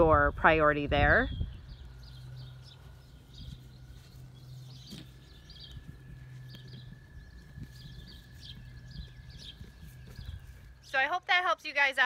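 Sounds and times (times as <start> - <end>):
low steady hum: 0.0 - 12.0
small birds chirping faintly: 1.0 - 12.0.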